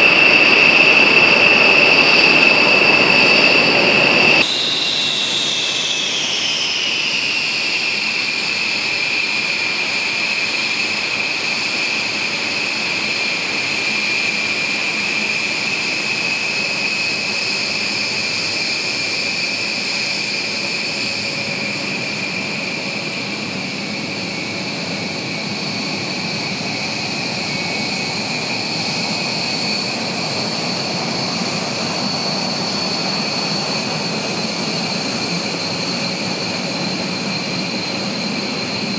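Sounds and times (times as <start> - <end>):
jet engines idling: 0.0 - 38.9.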